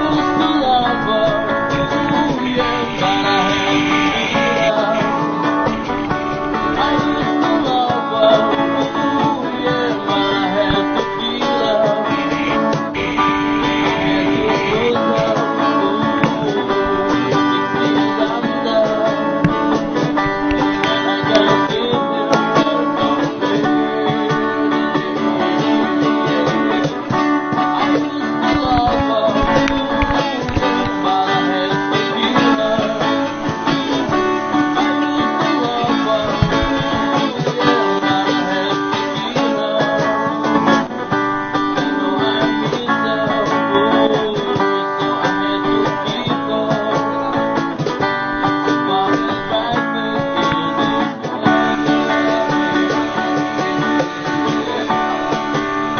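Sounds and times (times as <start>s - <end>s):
guitar music plucked and strummed: 0.0s - 55.9s.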